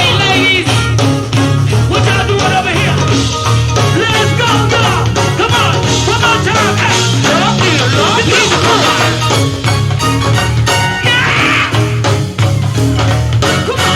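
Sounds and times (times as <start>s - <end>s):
live band playing: 0.0s - 13.9s.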